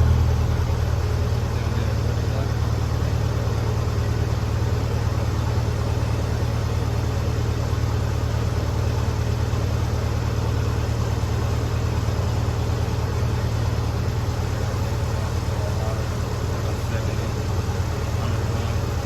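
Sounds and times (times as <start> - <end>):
welder engine running: 0.0 - 19.0.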